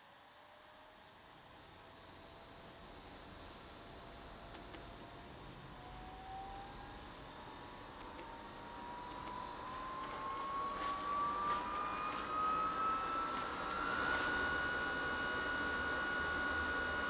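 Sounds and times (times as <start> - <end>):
electric fan motor whining: 0.2 - 17.0.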